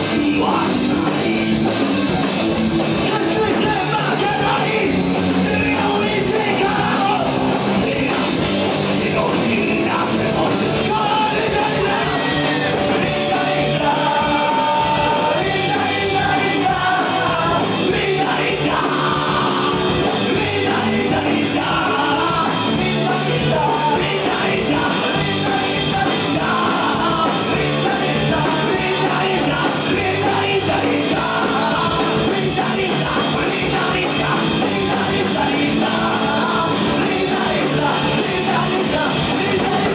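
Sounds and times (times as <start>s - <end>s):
lead vocal singing: 0.0s - 39.9s
rock band playing: 0.0s - 39.9s.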